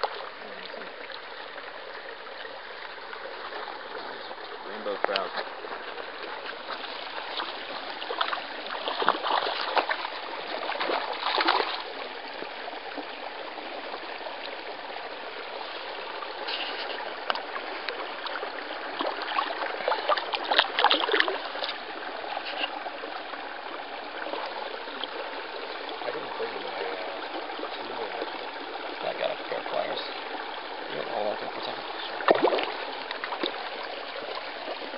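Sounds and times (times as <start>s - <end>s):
stream trickling over rocks: 0.0s - 34.9s.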